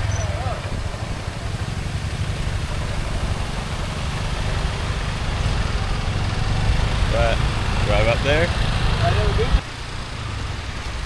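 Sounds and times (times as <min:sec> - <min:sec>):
motor scooter engine running: 0:00.0 - 0:09.6.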